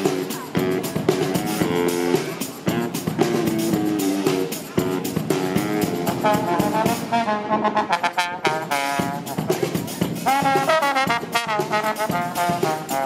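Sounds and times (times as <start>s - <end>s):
brass instruments playing melody: 0.0s - 13.0s
steady drum beat: 0.0s - 13.0s.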